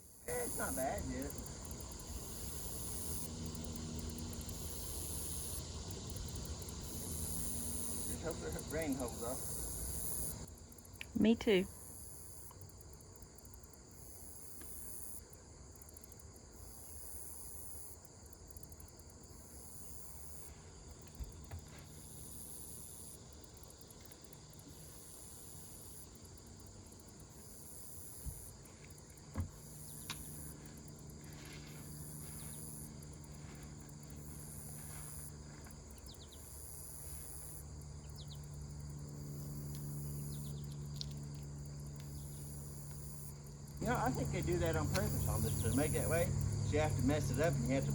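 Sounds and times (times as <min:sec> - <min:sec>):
insects buzzing in pulses: 0:00.0 - 0:47.9
faint low hum: 0:00.3 - 0:11.8, 0:18.5 - 0:47.9.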